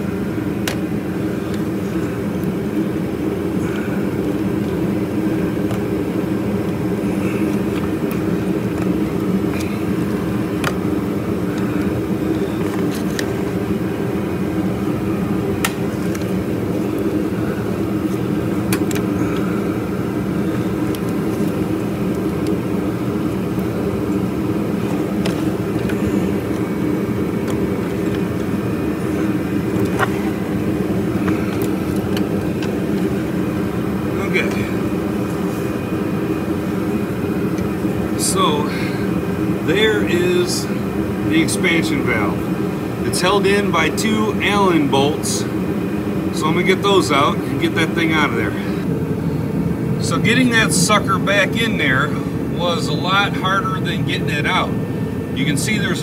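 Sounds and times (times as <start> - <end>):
space heater droning rumble: 0.0 - 56.0.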